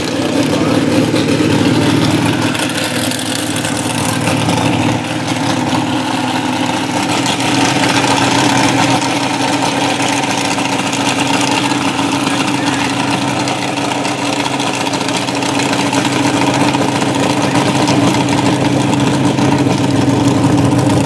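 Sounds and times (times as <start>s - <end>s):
race car engine idling: 0.0s - 21.0s.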